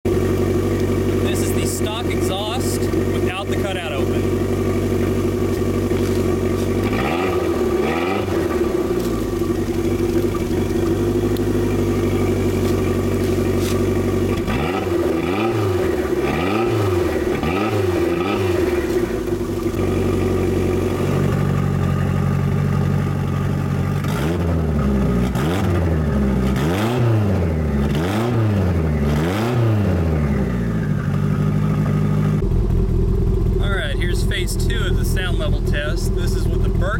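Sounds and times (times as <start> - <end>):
car engine idling: 0.0 - 36.9
engine revving throttle blips: 0.0 - 36.9.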